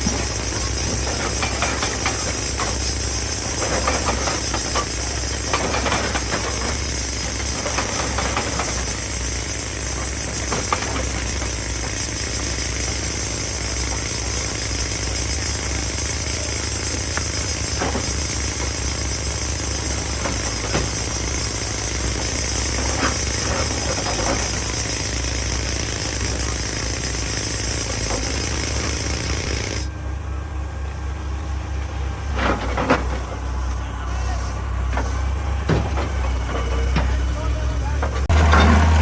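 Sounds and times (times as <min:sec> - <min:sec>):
rock clanking against metal: 0:00.0 - 0:12.5, 0:13.8 - 0:29.9, 0:34.9 - 0:39.0
excavator engine running: 0:00.0 - 0:39.0.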